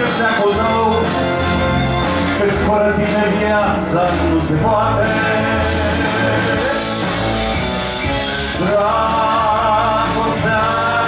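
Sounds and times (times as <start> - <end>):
man singing: 0.0 - 7.3, 8.4 - 11.0
folk-rock band playing: 0.0 - 11.0.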